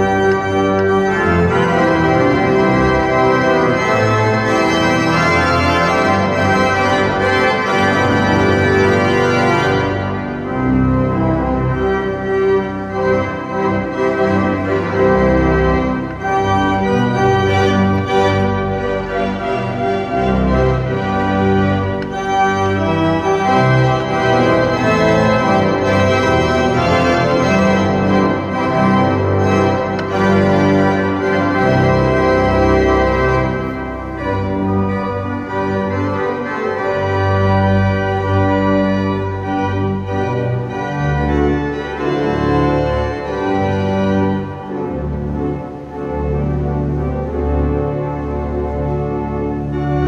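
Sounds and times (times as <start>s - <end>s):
church organ playing a hymn: 0.0s - 50.0s.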